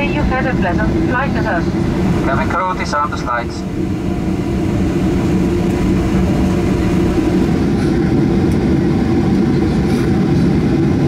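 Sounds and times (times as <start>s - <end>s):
airplane cabin drone: 0.0s - 11.0s.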